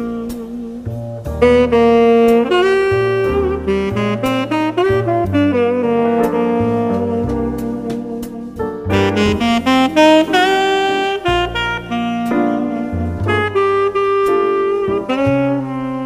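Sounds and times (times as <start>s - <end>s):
bass: 0.0s - 16.0s
piano: 0.0s - 16.0s
saxophone melody: 0.0s - 16.0s.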